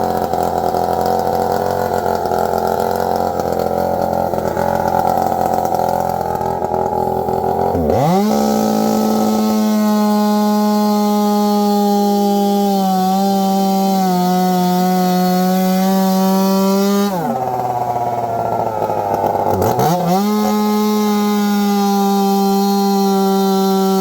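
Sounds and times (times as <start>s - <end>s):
chainsaw running at high revs: 0.0s - 24.0s.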